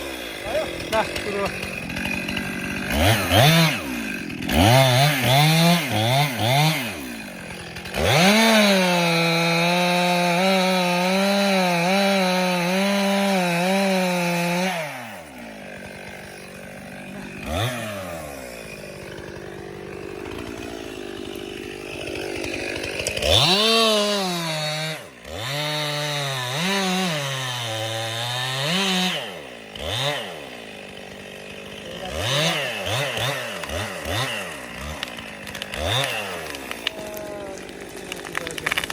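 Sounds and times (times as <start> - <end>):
chainsaw cutting a tree: 0.0 - 38.9.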